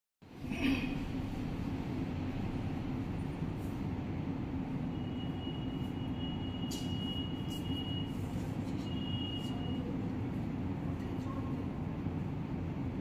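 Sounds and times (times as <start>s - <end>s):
low rumbling background noise: 0.2s - 13.0s.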